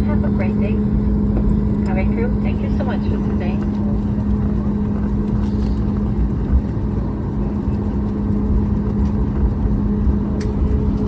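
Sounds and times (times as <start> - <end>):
airliner cabin engine rumble: 0.0 - 11.0
constant hum: 0.0 - 11.0.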